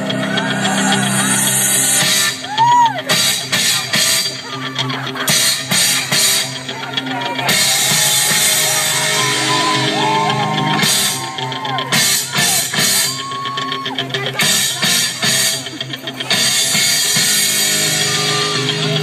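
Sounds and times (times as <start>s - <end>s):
rock music over loudspeaker: 0.0s - 19.0s.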